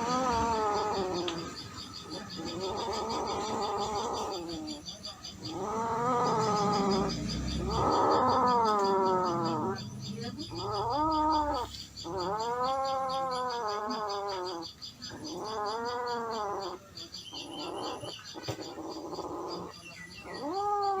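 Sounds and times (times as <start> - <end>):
cats yowling: 0.0 - 21.0.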